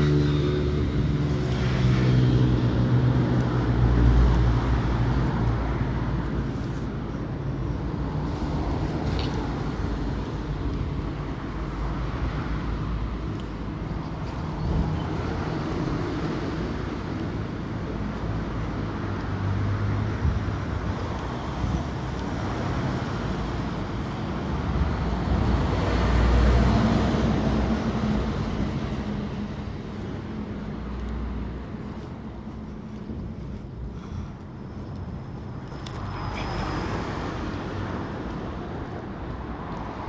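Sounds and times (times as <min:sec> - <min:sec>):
road traffic engines rumbling: 0:00.0 - 0:40.0.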